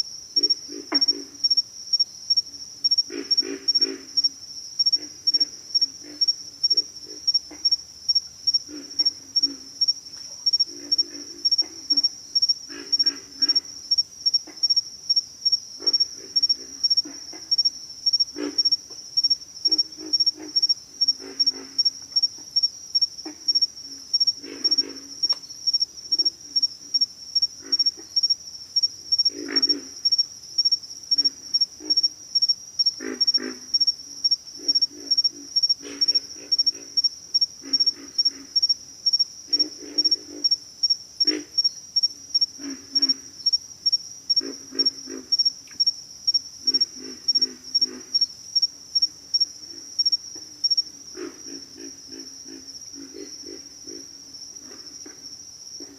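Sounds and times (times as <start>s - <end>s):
frogs grunting: 0.0s - 1.6s, 2.3s - 55.9s
insect chirping: 0.0s - 55.9s.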